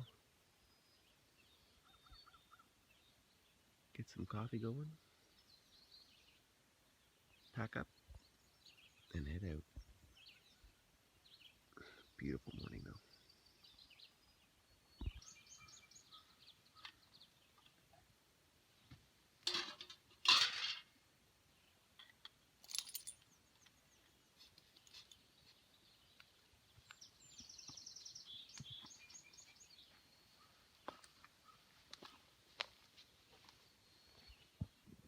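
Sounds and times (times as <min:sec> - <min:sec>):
birds chirping: 0:00.0 - 0:18.1, 0:21.5 - 0:35.0.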